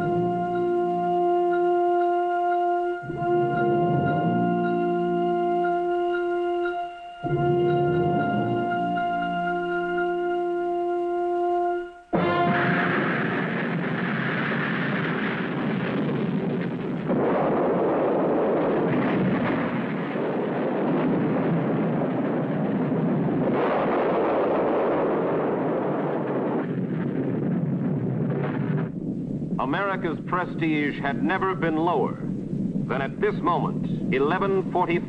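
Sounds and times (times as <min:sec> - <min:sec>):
rocket explosion rumble: 0:00.0 - 0:06.3, 0:07.2 - 0:10.0, 0:12.1 - 0:35.0.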